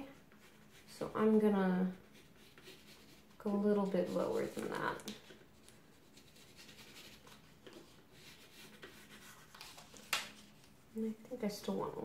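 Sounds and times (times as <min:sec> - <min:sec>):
pencil scratching on paper: 0:00.1 - 0:10.2.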